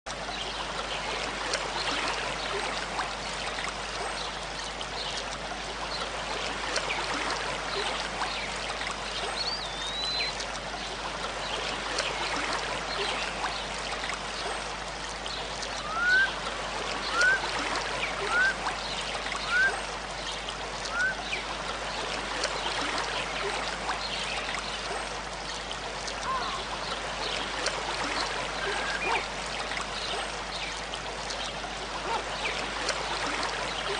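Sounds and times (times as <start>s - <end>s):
stream flowing and splashing: 0.1s - 33.9s.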